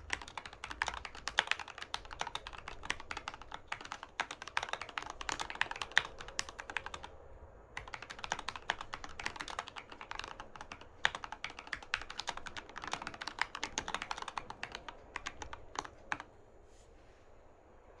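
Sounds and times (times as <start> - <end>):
mechanical keyboard typing: 0.0 - 7.1, 7.8 - 16.3.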